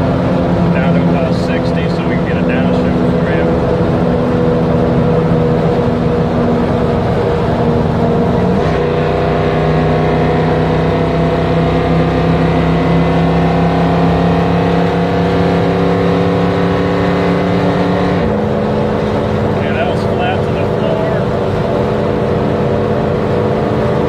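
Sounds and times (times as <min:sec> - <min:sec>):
road noise inside cab: 0:00.0 - 0:24.0
truck engine pulling: 0:00.0 - 0:24.0.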